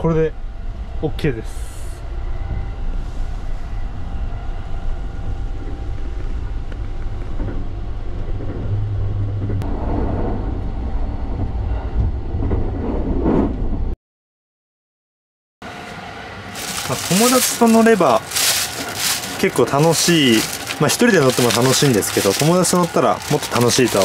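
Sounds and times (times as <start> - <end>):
train rumbling on rails: 0.0 - 14.0, 15.6 - 24.0.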